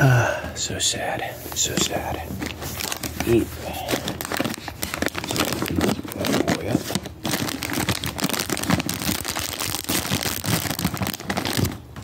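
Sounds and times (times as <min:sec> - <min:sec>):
plastic snack bag crinkling: 0:01.6 - 0:12.0.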